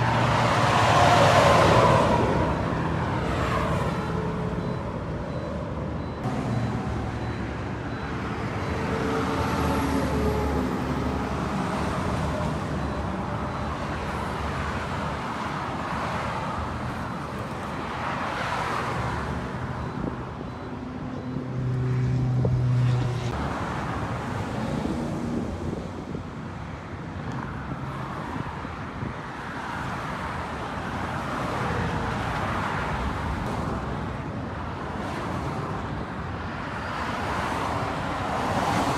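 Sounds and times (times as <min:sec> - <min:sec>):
passing vehicles: 0:00.0 - 0:38.9.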